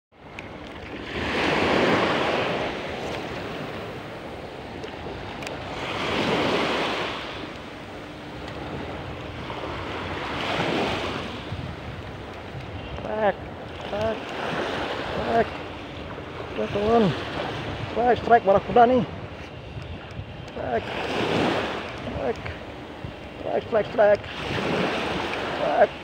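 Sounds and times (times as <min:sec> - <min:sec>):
steady rush of sea: 0:00.1 - 0:26.0
small waves breaking on beach: 0:00.2 - 0:26.0.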